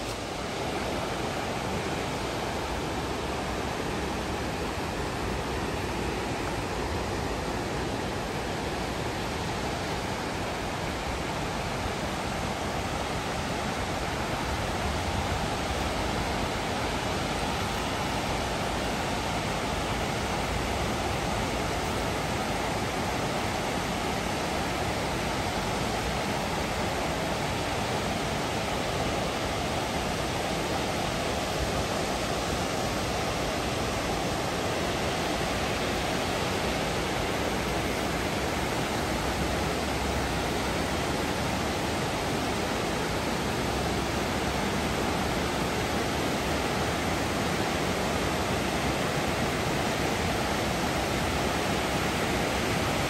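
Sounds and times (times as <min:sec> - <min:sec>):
water rushing: 0:00.0 - 0:53.0.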